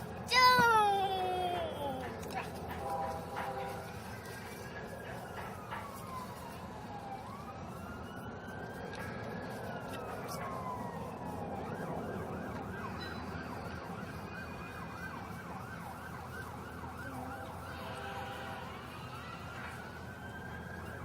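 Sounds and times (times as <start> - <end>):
emergency vehicle siren: 0.0 - 21.0.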